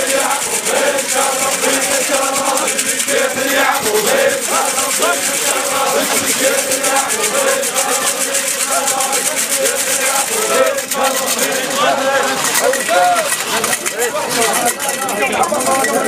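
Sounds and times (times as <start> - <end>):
men chanting in chorus: 0.0 - 15.0
fast rhythmic clapping: 0.0 - 16.0.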